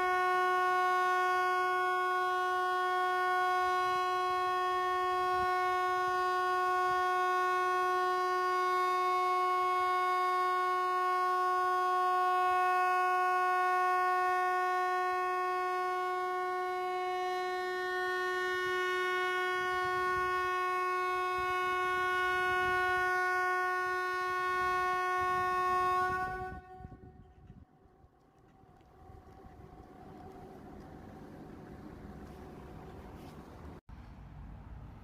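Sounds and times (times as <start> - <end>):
warning siren steady tone: 0.0 - 33.4.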